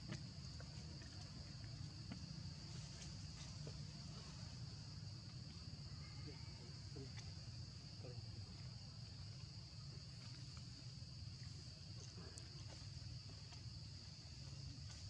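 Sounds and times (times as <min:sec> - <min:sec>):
faint insect chorus: 0:00.0 - 0:15.0.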